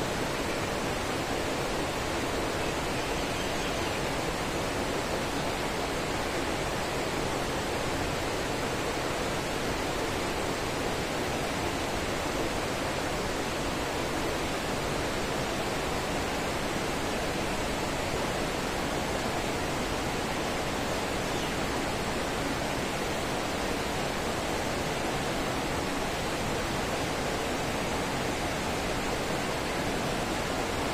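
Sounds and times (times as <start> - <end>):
stream rushing: 0.0 - 30.9.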